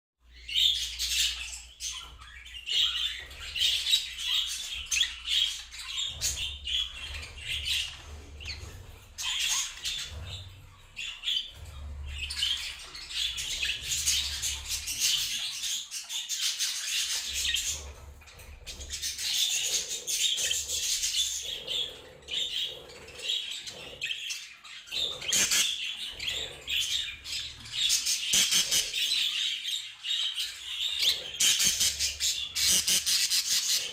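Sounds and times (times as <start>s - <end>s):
budgerigars chattering: 0.4s - 33.9s.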